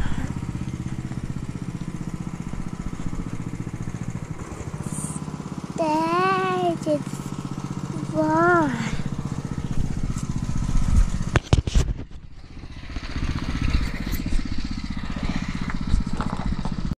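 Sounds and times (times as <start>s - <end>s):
pressure washer engine running: 0.0s - 16.9s.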